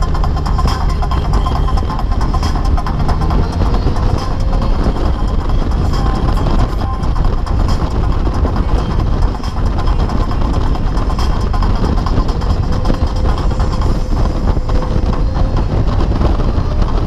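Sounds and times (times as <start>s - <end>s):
engine running: 0.0s - 17.0s
road and wind noise: 0.0s - 17.0s.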